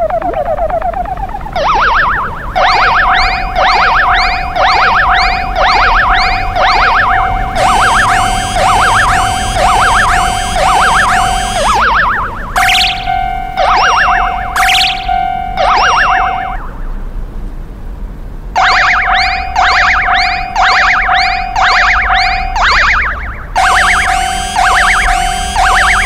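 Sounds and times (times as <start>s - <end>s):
crossing warning bell ringing: 0.0s - 16.8s, 18.6s - 26.0s
steady tone: 0.0s - 17.0s, 18.6s - 26.0s.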